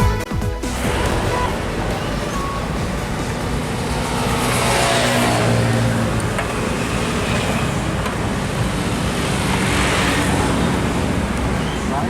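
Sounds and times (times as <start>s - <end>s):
bus engine passing: 0.6s - 12.0s
tyre and traffic noise: 0.6s - 12.0s.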